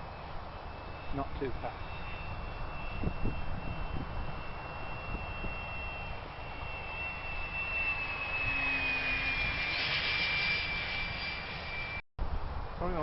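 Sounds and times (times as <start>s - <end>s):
electric model aircraft whine: 0.0s - 12.0s.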